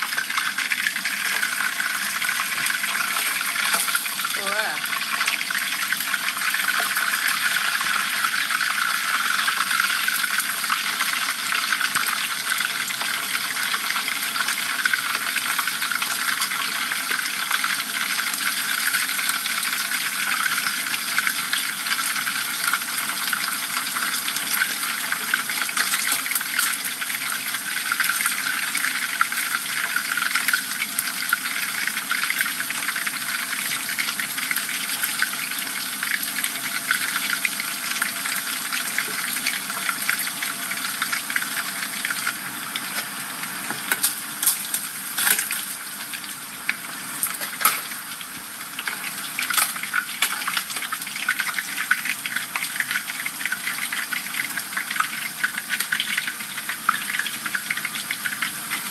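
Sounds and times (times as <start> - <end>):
fish deep-frying in hot oil: 0.0 - 58.9.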